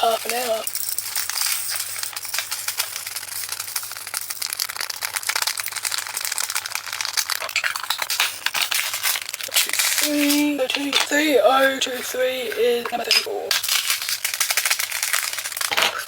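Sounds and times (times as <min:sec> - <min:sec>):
plastic bag crinkling: 0:00.0 - 0:16.0
tiny beads pattering into plastic container: 0:00.0 - 0:16.0.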